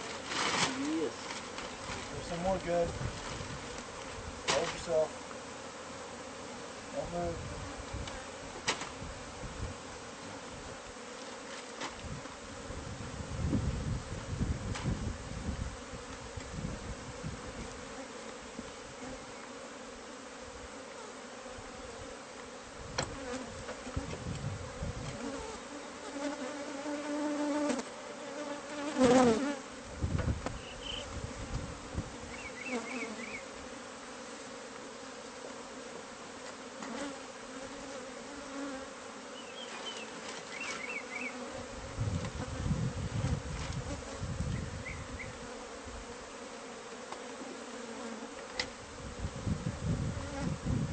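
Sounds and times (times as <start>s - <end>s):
honeybees buzzing: 0.0s - 50.9s.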